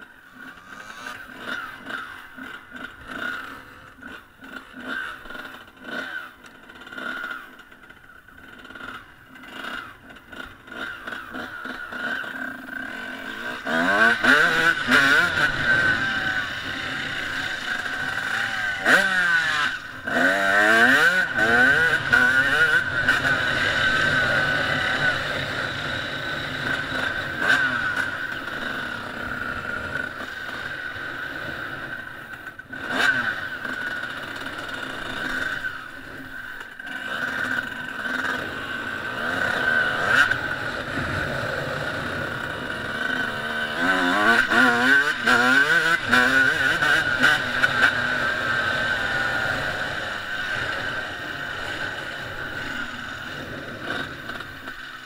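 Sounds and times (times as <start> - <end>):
dirt bike engine revving: 0.1 - 55.0.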